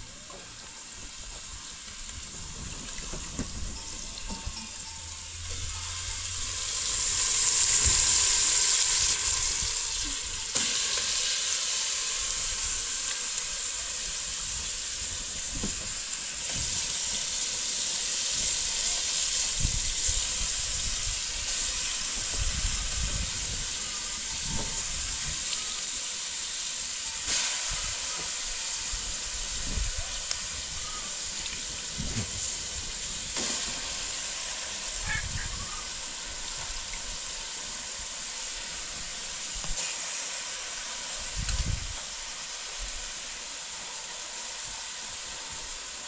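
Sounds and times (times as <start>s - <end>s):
gas burner hissing: 0.0s - 46.0s.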